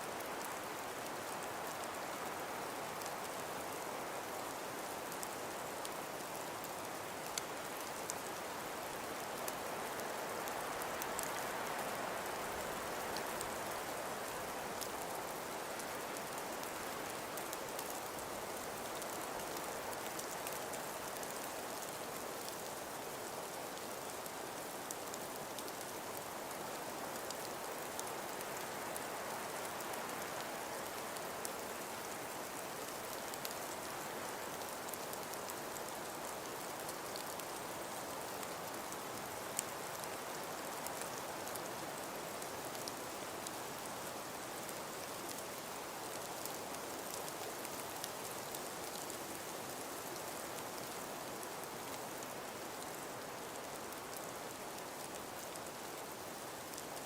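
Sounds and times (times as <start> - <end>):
hiss of wind-blown snow: 0.0 - 57.0
faint ticks: 4.2 - 57.0.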